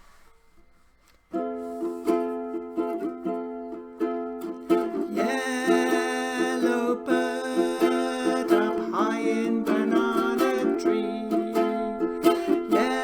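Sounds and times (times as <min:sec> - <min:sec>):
ukulele strumming chords: 0:00.8 - 0:13.0.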